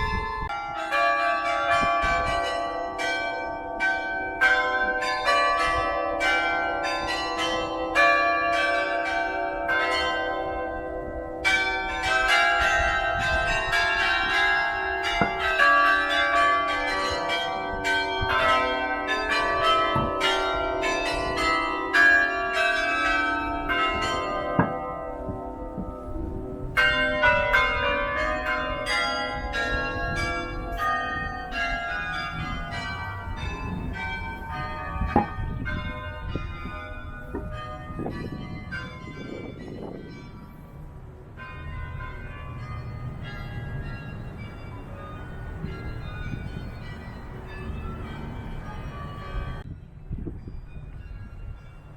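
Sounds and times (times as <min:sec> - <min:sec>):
carillon bells playing a tune: 0:00.0 - 0:40.7, 0:41.4 - 0:49.7.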